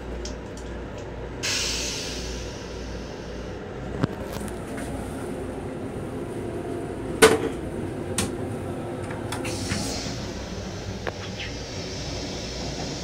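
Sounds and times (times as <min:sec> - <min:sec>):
railcar rumbling on rails: 0:00.0 - 0:13.0.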